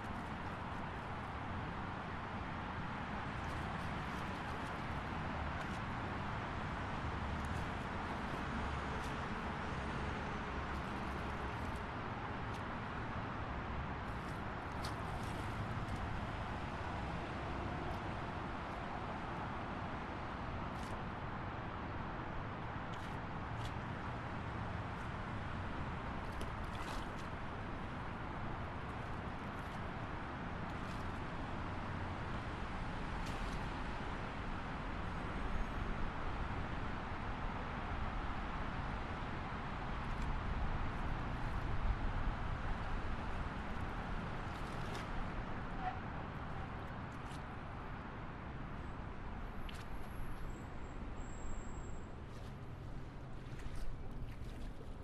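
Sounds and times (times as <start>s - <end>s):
highway traffic: 0.0s - 55.0s.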